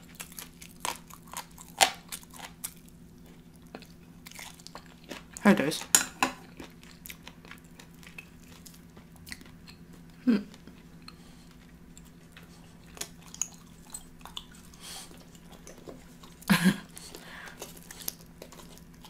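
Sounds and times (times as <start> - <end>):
wet chewing with crunches: 0.0 - 19.0.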